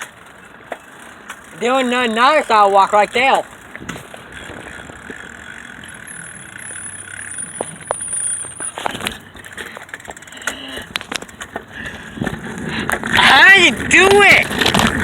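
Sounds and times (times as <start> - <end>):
bicycle clicks and rattles: 0.0 - 15.0
bicycle rolling over bricks: 0.0 - 15.0.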